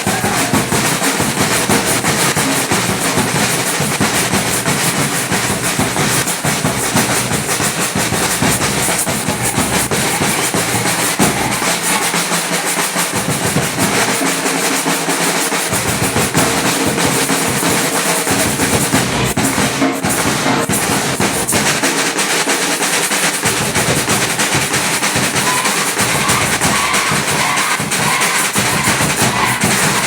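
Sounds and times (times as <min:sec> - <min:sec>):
samba drumming snare strokes: 0:00.0 - 0:30.0.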